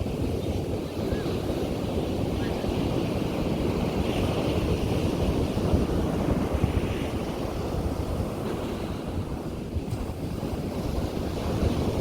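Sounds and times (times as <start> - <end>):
sea waves breaking on beach: 0.0 - 12.0
wind buffeting microphone: 0.0 - 12.0.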